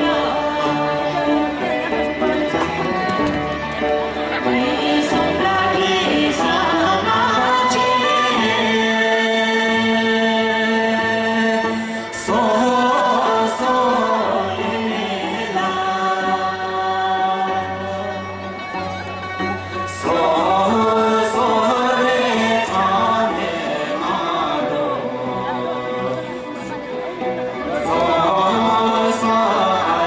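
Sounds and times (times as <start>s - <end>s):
group singing slow folk song: 0.0s - 18.7s, 19.7s - 30.0s.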